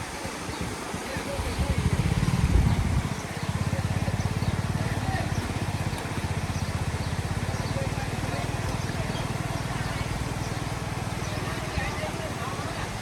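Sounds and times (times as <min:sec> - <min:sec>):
small engine puttering: 0:00.4 - 0:13.0.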